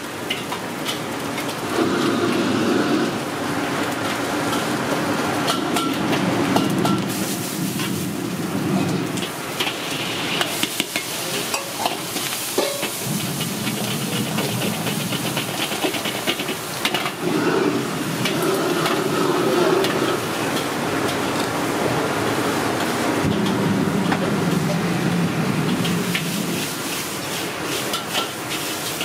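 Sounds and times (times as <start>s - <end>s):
vegetables sizzling in a wok: 0.0s - 29.0s.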